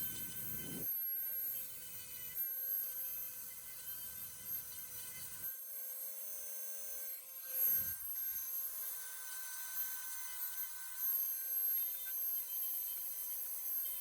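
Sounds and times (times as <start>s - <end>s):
rotary tool high whine: 0.0s - 14.0s.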